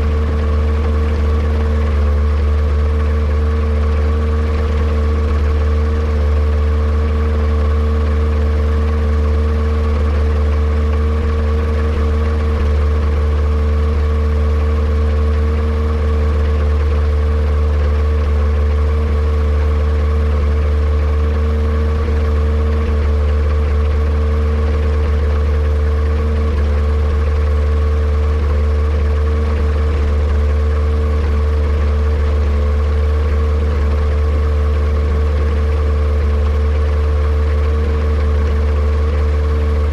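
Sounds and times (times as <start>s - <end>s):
aircraft engine running steadily: 0.0s - 39.9s.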